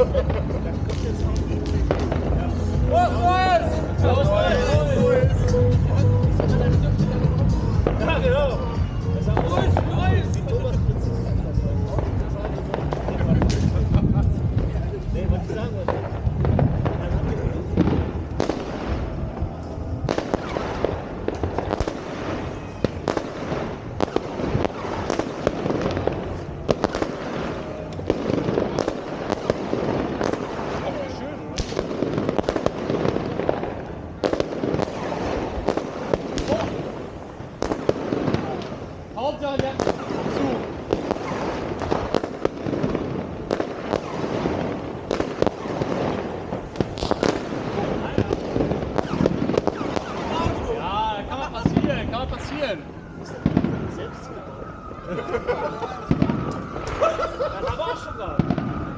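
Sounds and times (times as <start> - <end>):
fireworks bangs and crackling: 0.0 - 58.9.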